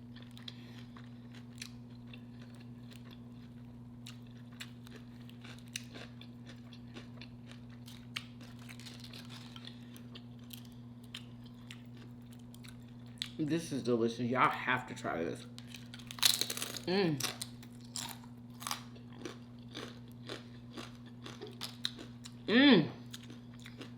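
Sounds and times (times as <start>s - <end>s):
person chewing: 0.0s - 13.4s, 15.6s - 23.9s
steady low hum: 0.0s - 23.9s
crunchy pickle bites: 0.2s - 13.4s, 15.6s - 22.4s.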